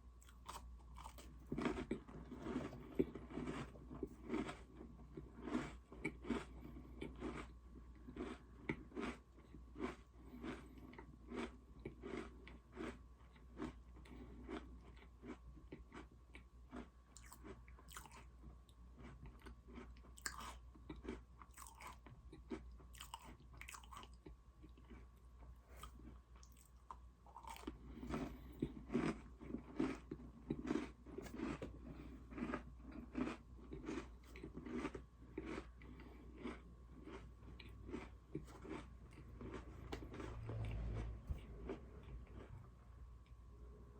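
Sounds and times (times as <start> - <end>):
chewing crunchy cookies: 0.0 - 43.4.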